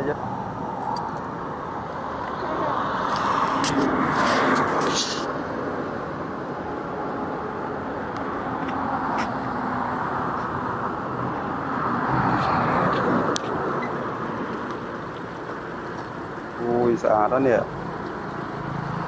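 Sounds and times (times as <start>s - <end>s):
vehicle road noise: 0.0s - 19.0s.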